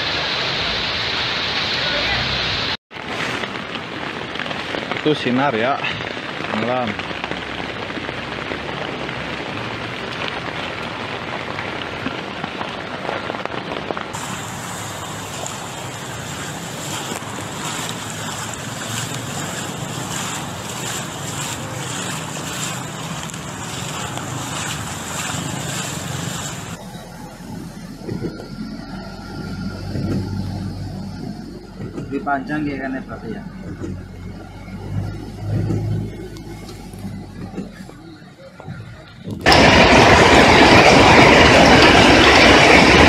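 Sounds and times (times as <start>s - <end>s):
flowing floodwater: 0.0s - 43.0s
heavy rain: 0.0s - 43.0s.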